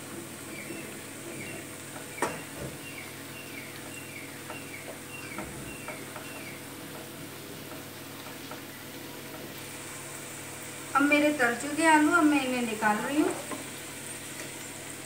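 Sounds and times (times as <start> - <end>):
food deep frying in oil: 0.0 - 15.0.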